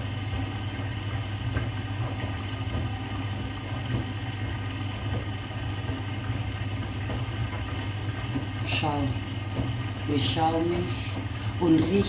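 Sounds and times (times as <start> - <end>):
washing machine motor hum: 0.0 - 12.0
water and laundry sloshing: 0.0 - 12.0.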